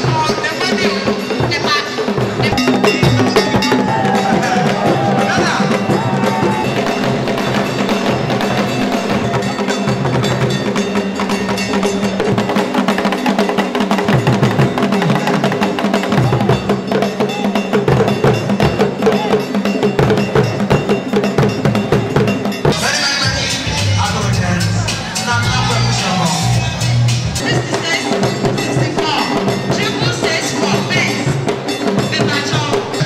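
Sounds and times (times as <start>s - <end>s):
hand drum ensemble playing: 0.0s - 33.0s.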